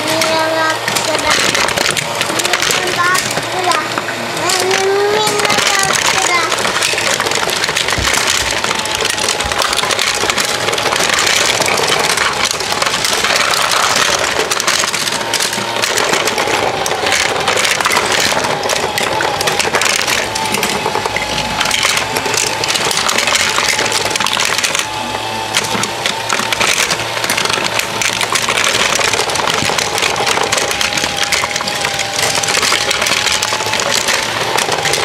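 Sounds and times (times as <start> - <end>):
toy cars clattering: 0.0 - 35.0.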